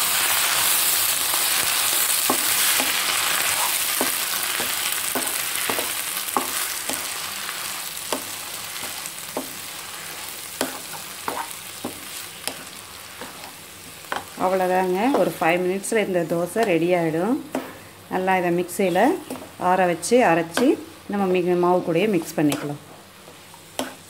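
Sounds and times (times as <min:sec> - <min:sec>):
leaves sizzling in hot oil: 0:00.0 - 0:24.0.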